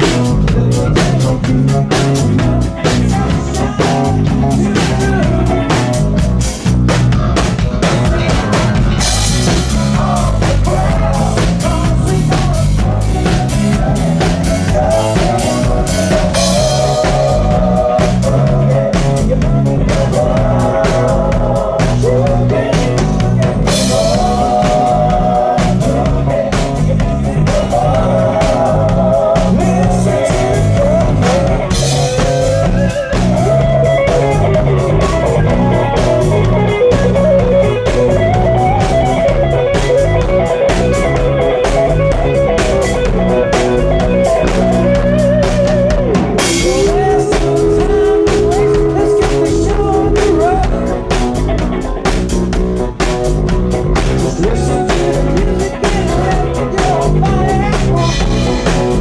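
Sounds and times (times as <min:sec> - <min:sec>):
drum kit beat: 0:00.0 - 0:59.0
live rock band playing: 0:00.0 - 0:59.0.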